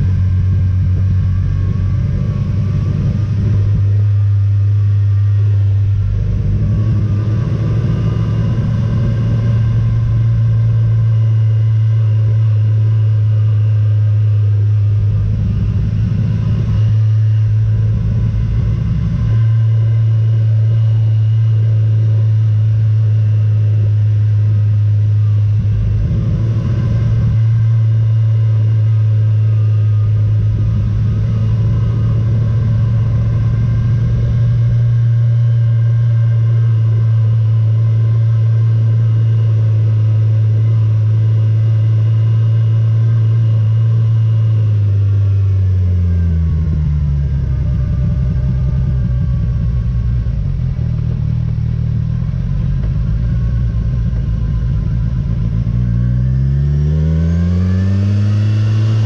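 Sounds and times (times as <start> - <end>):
motorcycle engine droning: 0.0 - 59.0
wind rumble on microphone: 0.0 - 59.0.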